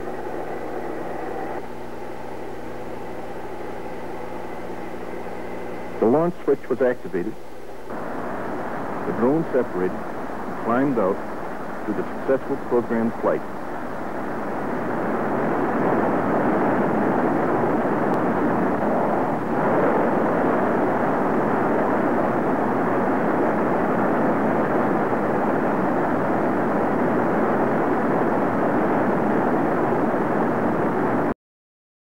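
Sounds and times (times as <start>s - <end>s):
jet aircraft rushing noise: 0.0s - 31.3s.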